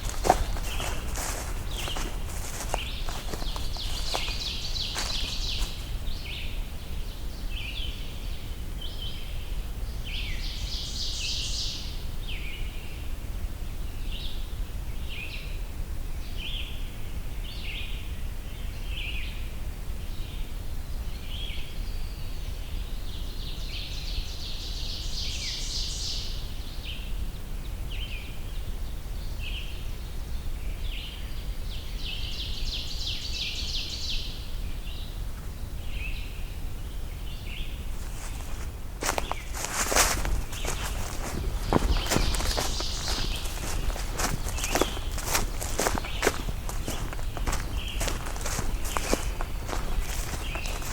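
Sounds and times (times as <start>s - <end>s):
songbirds singing: 0.0s - 13.1s, 16.2s - 50.9s.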